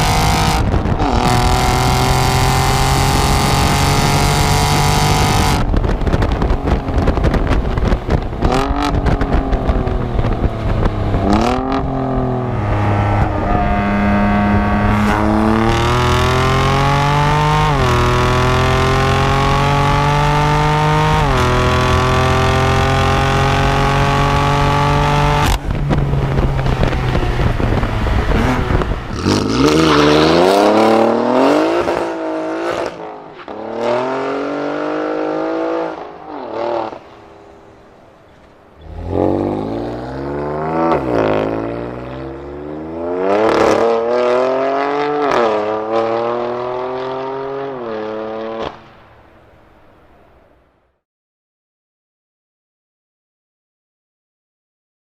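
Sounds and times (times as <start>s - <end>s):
engine revving: 0.0s - 5.7s, 7.0s - 37.2s, 38.8s - 48.8s
sports car engine accelerating: 0.0s - 38.1s, 38.8s - 48.8s.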